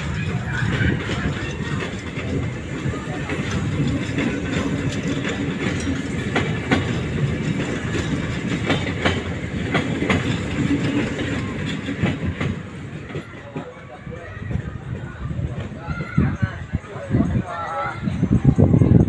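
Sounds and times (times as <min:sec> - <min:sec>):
train wheels clattering over rail joints: 0:00.0 - 0:16.4
train rumble: 0:00.0 - 0:19.0.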